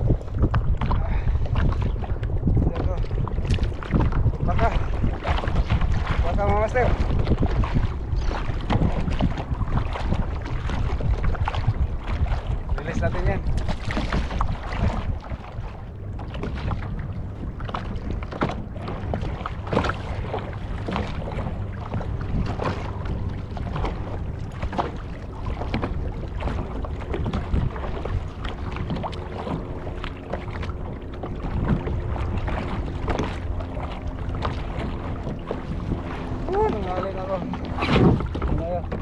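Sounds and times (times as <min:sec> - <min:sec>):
water lapping against hull: 0:00.0 - 0:39.0
wind buffeting microphone: 0:00.0 - 0:39.0
small knocks and splashes: 0:03.4 - 0:15.5, 0:17.6 - 0:39.0.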